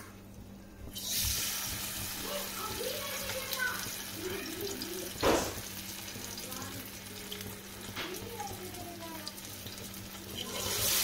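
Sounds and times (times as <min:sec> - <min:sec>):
oil sizzling in a frying pan: 0:00.9 - 0:11.0.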